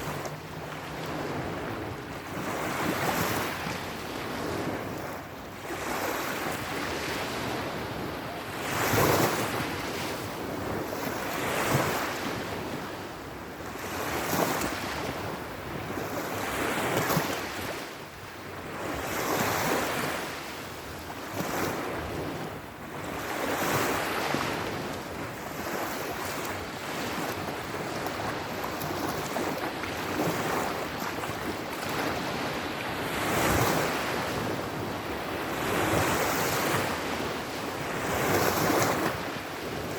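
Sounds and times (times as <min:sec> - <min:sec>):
waves breaking: 0:00.0 - 0:12.9, 0:18.8 - 0:39.9.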